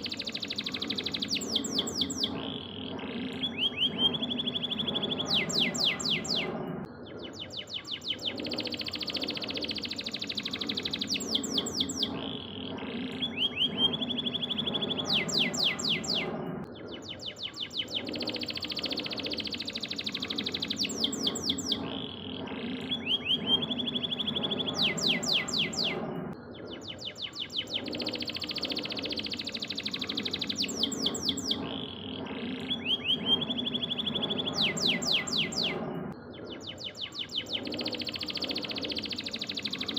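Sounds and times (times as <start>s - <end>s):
canary singing trills: 0.0s - 39.9s
low background hum: 0.0s - 39.9s.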